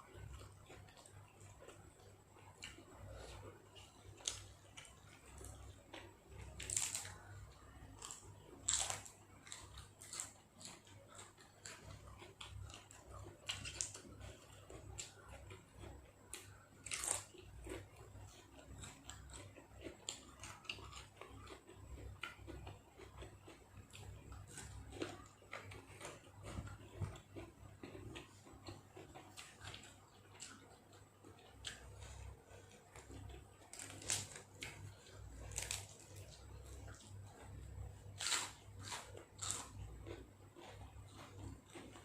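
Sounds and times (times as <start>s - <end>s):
person chewing crunchy food: 0.0s - 42.0s.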